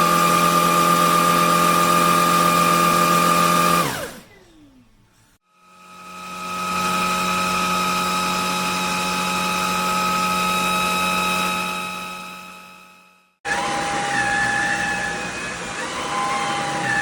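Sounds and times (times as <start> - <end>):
vacuum cleaner motor running: 0.0 - 4.4, 5.6 - 12.9, 13.5 - 17.0.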